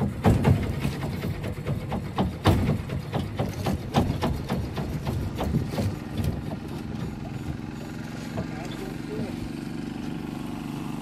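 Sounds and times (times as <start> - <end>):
water lapping against wooden hull: 0.0 - 10.9.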